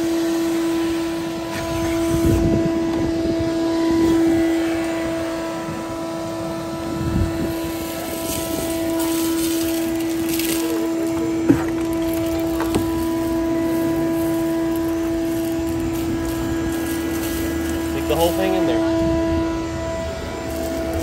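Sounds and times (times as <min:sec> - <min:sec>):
shop vacuum whining: 0:00.0 - 0:21.0.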